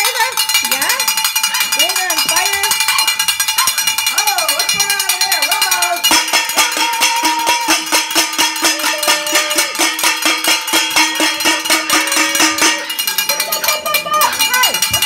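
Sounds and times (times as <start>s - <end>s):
cowbell shaken fast: 0.0s - 15.0s.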